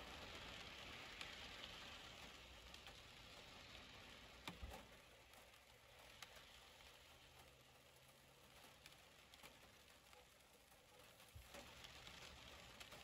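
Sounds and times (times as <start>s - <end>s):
light rain on window glass: 0.0s - 13.0s.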